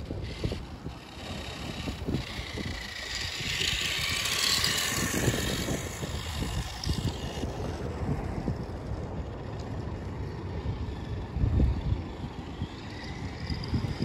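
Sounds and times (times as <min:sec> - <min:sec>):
toy car motor and tyres whine: 0:00.0 - 0:14.0
wind buffeting microphone: 0:00.0 - 0:14.0.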